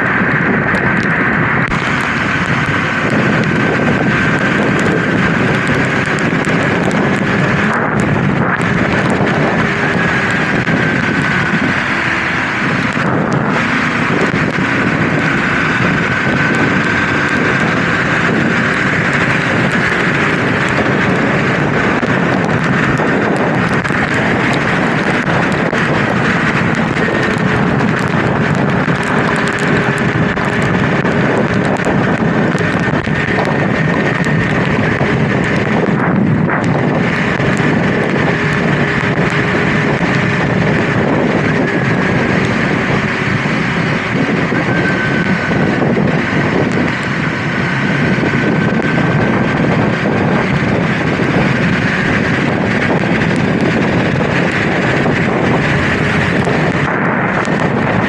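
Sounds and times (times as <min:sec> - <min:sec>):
motorcycle engine running: 0:00.0 - 0:58.0
road noise: 0:00.0 - 0:58.0
wind rushing over microphone: 0:00.0 - 0:58.0.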